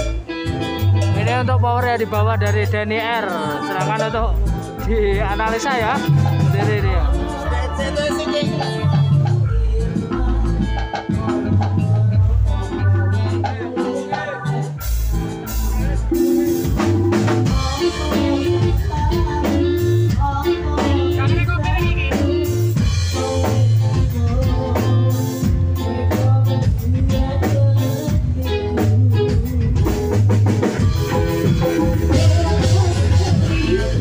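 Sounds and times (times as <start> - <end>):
dance music with drum beat: 0.0 - 28.3, 29.5 - 34.0.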